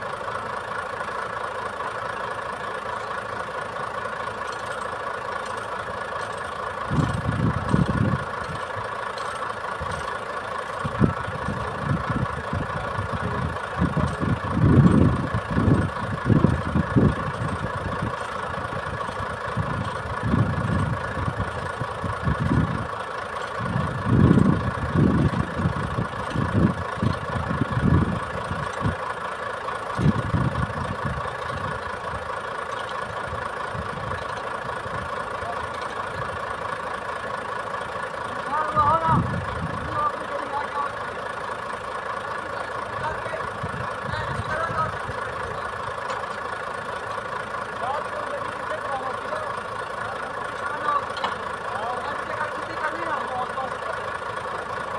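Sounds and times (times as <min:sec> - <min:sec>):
diesel truck engine whining: 0:00.0 - 0:54.9.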